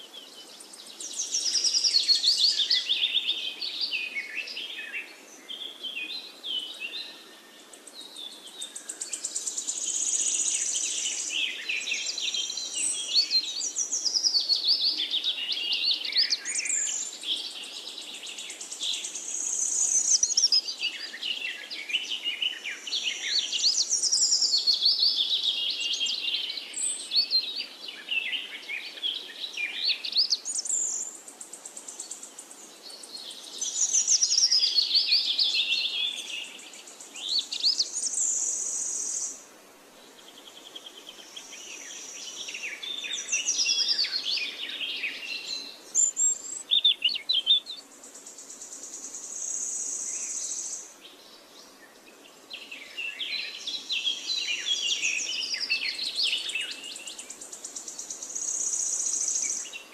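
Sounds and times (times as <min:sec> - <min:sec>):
birds chirping and trilling: 0:00.0 - 0:39.4, 0:40.0 - 0:59.9.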